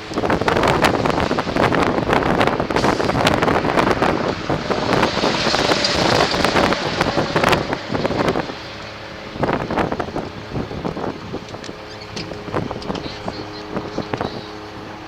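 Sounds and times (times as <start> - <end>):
machinery clattering and rattling: 0.0 - 14.3.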